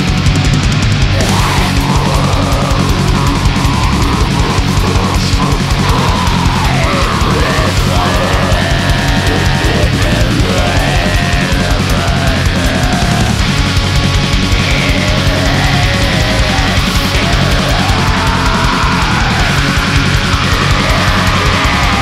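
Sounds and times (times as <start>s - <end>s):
distorted guitars: 0.0s - 22.0s
fast drumming: 0.0s - 22.0s.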